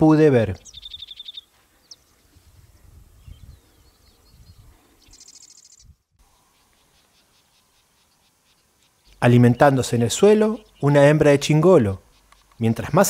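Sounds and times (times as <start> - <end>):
wren singing trills: 0.0 - 13.0.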